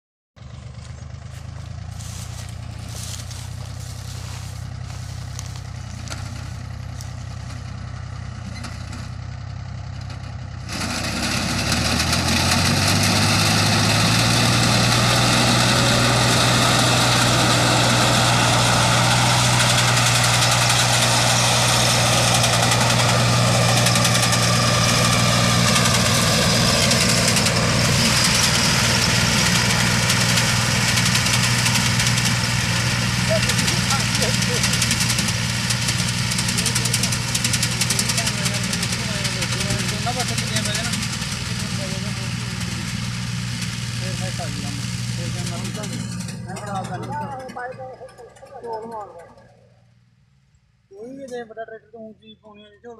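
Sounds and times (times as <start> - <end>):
tractor engine running: 0.4 - 51.2
reaper cutting crop: 0.5 - 9.1, 10.6 - 49.3.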